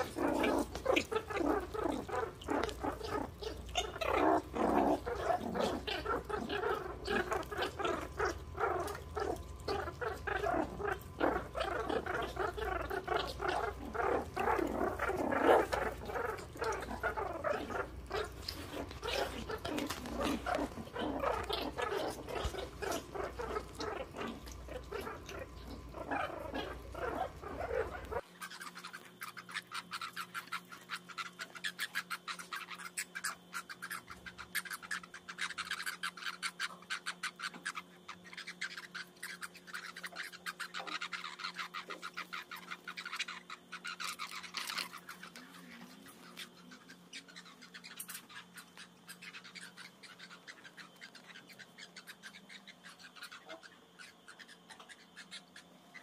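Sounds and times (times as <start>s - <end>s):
meerkat pups growling and squabbling: 0.0s - 56.0s.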